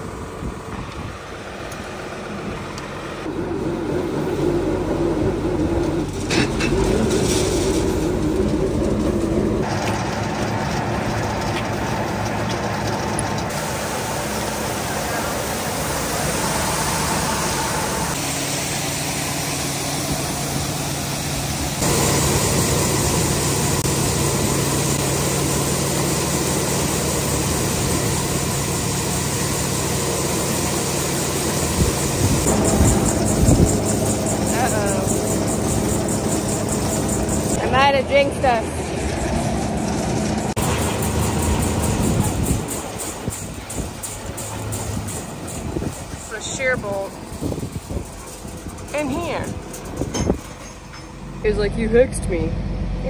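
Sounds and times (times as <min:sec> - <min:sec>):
tractor engine driving grinder-mixer: 0:00.0 - 0:53.0.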